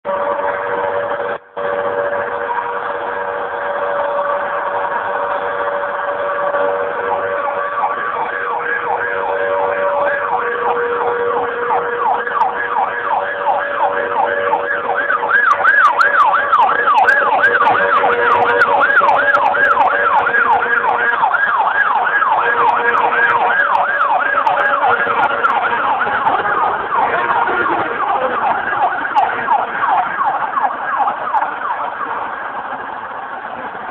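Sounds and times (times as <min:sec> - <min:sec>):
fire truck siren yelping: 0:00.1 - 0:33.9.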